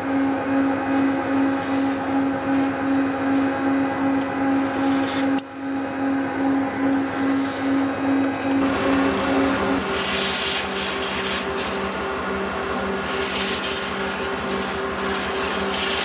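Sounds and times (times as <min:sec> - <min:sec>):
vacuum cleaner humming: 0:00.0 - 0:16.0.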